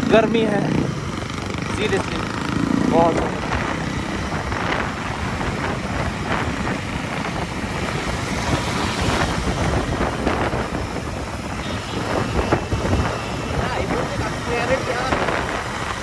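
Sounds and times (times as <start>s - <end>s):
motorcycle engine: 0.0s - 16.0s
road noise: 0.0s - 16.0s
wind rushing over microphone: 0.0s - 16.0s.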